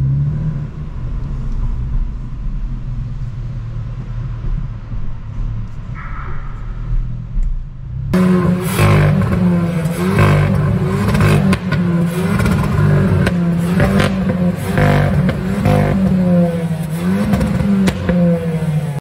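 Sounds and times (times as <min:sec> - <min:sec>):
car engine revving: 0:00.0 - 0:19.0
exhaust cracks: 0:00.0 - 0:19.0.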